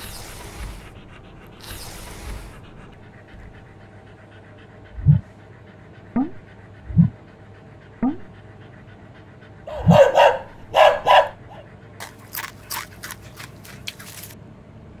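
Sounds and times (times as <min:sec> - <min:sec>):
dog panting: 0:00.0 - 0:14.4.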